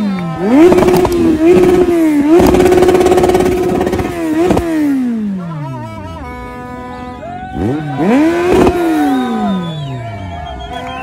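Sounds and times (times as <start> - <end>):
motorcycle engine revving: 0.0 - 6.1, 7.5 - 10.6.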